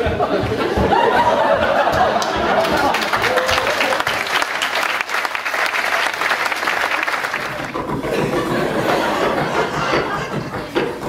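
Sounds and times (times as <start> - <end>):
audience applauding: 0.9 - 10.8.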